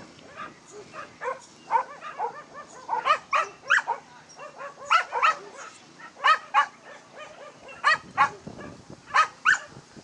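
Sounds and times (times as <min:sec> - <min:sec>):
dog barking high-pitched: 0:00.3 - 0:09.8.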